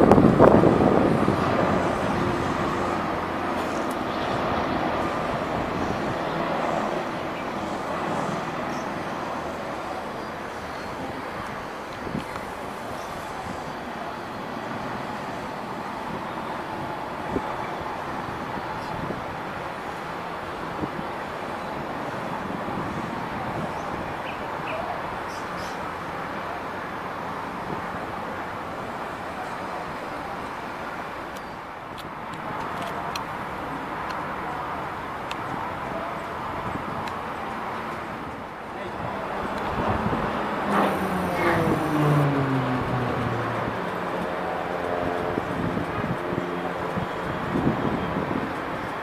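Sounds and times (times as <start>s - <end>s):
helicopter flying past: 0.0s - 31.3s, 32.4s - 49.0s.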